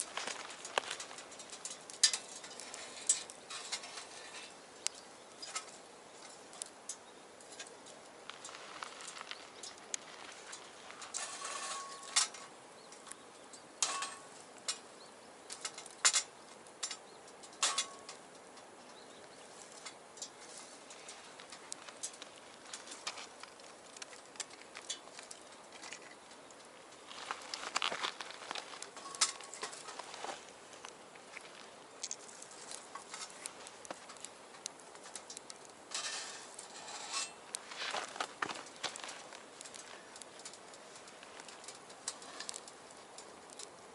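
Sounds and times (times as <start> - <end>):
fire hiss: 0.0 - 43.9
wood fire crackling in stove: 0.0 - 43.9.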